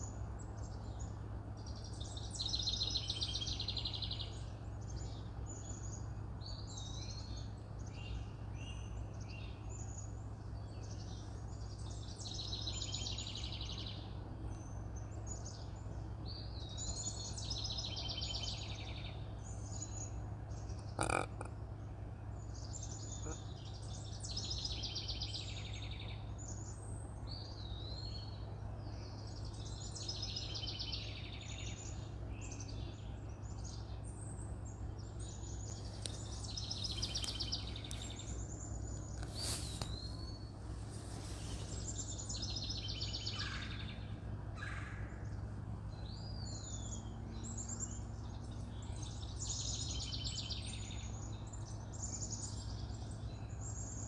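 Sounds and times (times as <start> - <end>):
low background hum: 0.0 - 54.0
birds singing and calling: 0.5 - 54.0.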